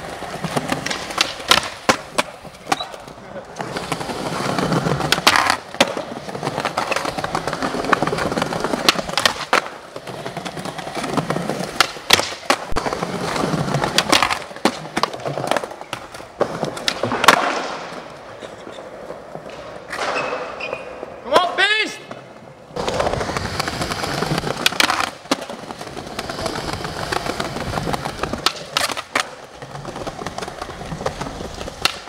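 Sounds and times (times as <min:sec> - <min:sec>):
skateboard clacks: 0:00.0 - 0:20.8, 0:22.0 - 0:32.0
skateboard wheels rolling on stone: 0:00.0 - 0:21.4, 0:22.0 - 0:32.0.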